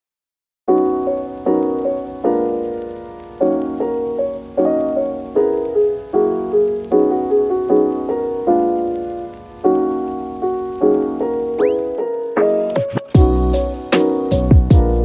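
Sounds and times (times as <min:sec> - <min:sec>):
soft electric piano chords: 0:00.7 - 0:15.0.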